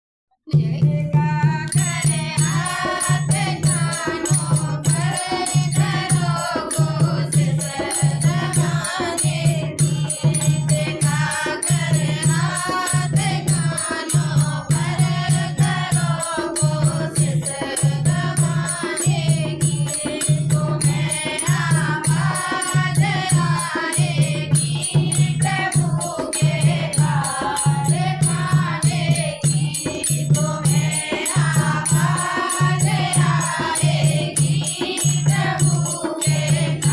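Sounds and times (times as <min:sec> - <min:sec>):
women singing devotional song: 0:00.4 - 0:36.9
rattling hand percussion: 0:00.6 - 0:36.9.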